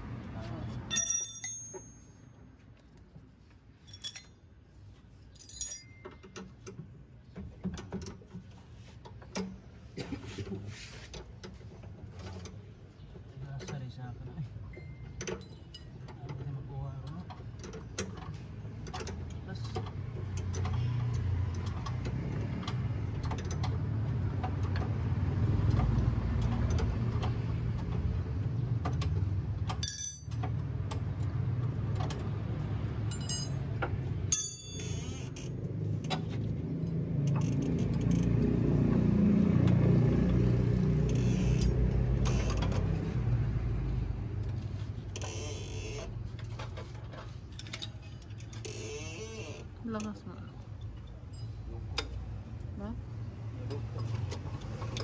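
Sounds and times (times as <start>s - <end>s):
motor vehicle rumble: 0.0s - 55.0s.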